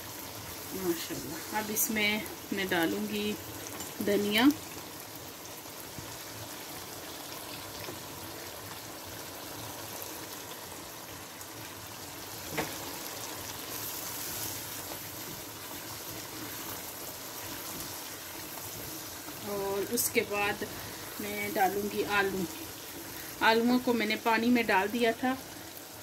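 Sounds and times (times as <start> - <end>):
curry sizzling and bubbling: 0.0 - 26.0.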